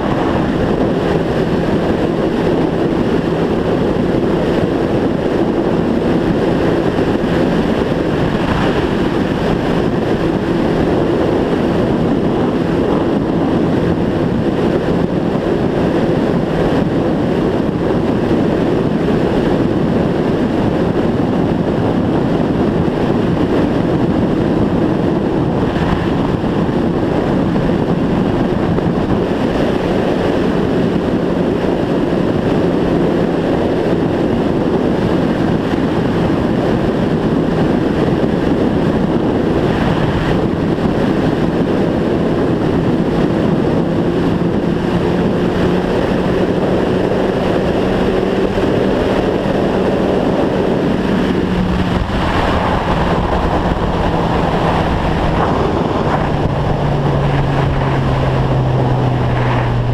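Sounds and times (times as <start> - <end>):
motorcycle engine cruising: 0.0 - 59.9
wind rushing over microphone: 0.0 - 59.9.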